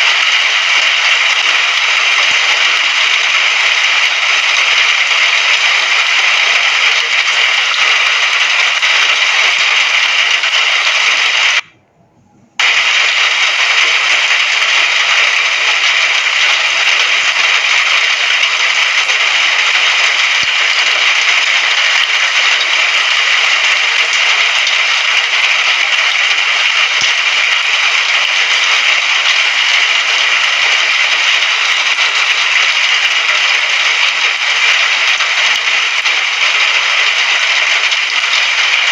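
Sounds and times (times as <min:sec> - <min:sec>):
falling rain: 0:00.0 - 0:11.7, 0:12.6 - 0:38.9.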